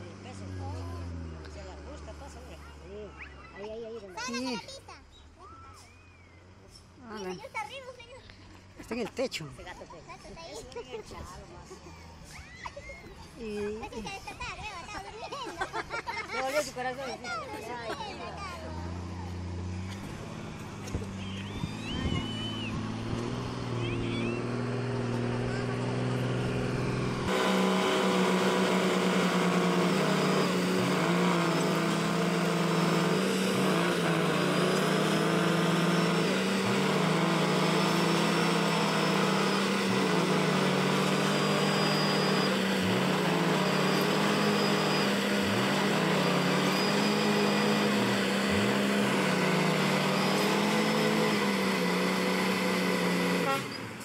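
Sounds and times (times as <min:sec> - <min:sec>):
bus engine droning under load: 0:00.0 - 0:54.0.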